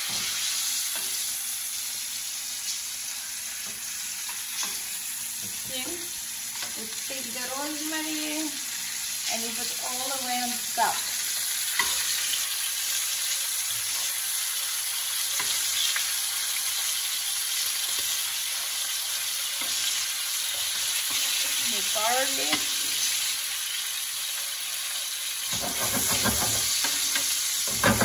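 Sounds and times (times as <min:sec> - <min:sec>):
steaks sizzling in a frying pan: 0:00.0 - 0:28.0.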